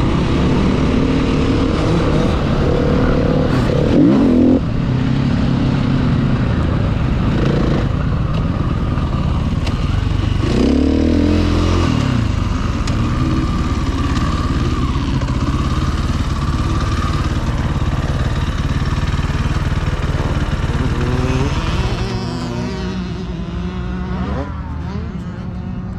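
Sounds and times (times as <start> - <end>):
motocross bike engine revving: 0.0 - 25.9.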